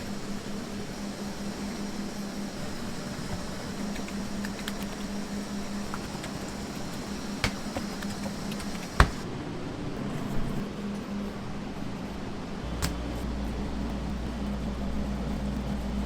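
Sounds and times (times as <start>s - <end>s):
ventilation fan hum: 0.0s - 16.0s.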